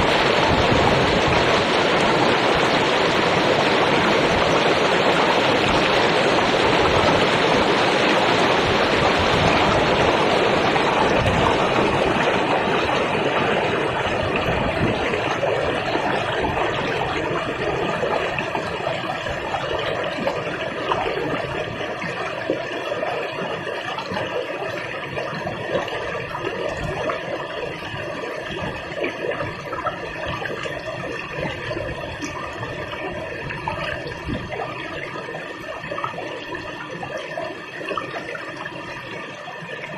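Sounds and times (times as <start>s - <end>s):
river water flowing: 0.0s - 39.9s
small water splashes: 0.0s - 39.9s.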